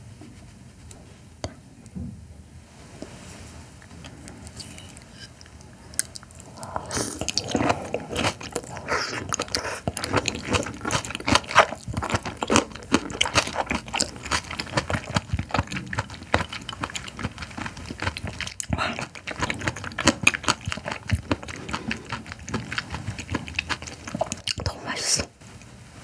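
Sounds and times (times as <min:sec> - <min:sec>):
oyster slurped and chewed: 0:03.8 - 0:25.3.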